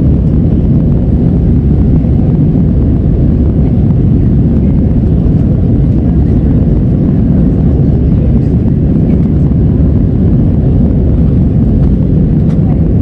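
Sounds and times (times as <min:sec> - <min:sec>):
jet engines and rushing air: 0:00.0 - 0:13.0.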